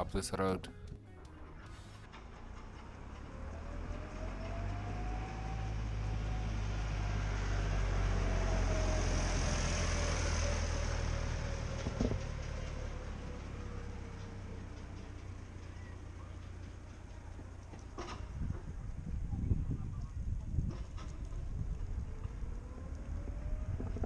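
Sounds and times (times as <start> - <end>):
vehicle engine running: 1.2 - 24.0.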